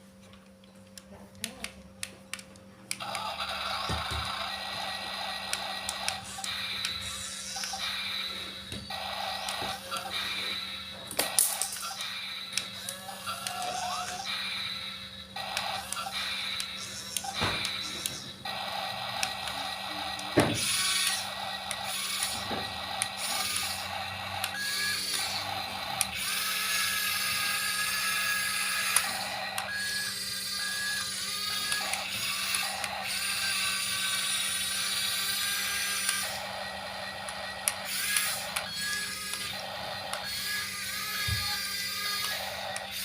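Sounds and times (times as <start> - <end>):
toy motors and gears whirring: 0.8 - 43.0.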